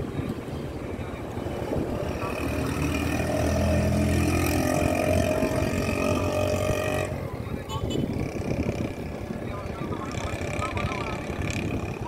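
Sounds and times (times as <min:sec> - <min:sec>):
vehicle engine running: 0:02.1 - 0:12.0.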